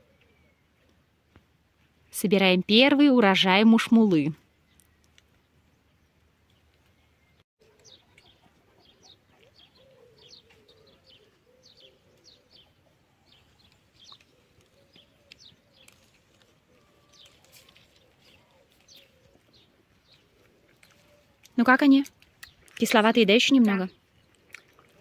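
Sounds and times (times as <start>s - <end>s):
small birds chirping: 4.2s - 25.0s.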